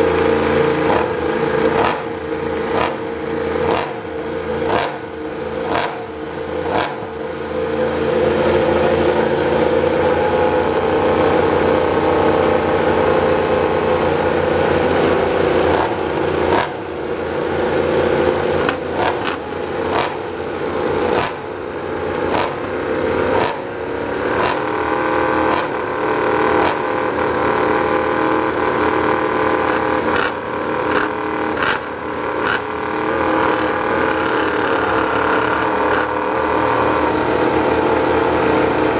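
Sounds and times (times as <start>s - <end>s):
motorcycle engine high idle: 0.0s - 38.9s.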